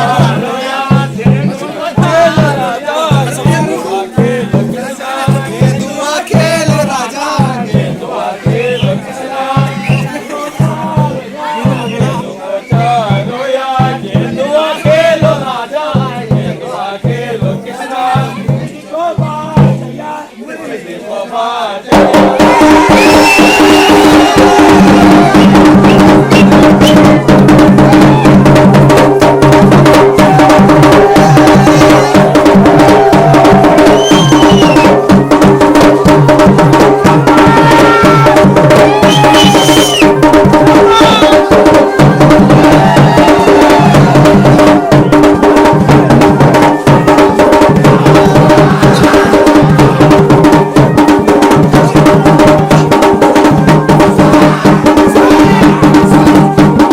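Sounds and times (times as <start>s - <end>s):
fast drumming: 0.0s - 20.1s, 21.9s - 56.9s.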